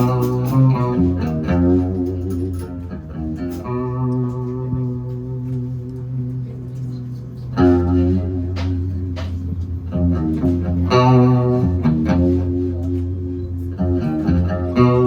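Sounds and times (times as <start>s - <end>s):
bass guitar chords: 0.0s - 15.0s
guitar chords: 0.0s - 15.0s.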